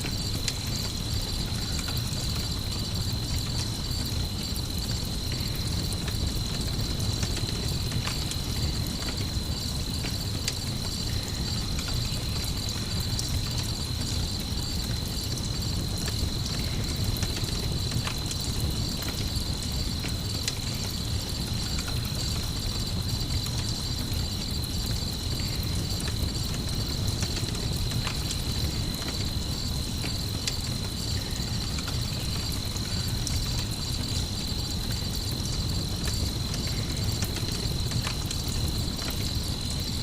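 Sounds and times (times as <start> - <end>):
campfire crackling: 0.0 - 40.0
crickets chirping: 0.0 - 40.0.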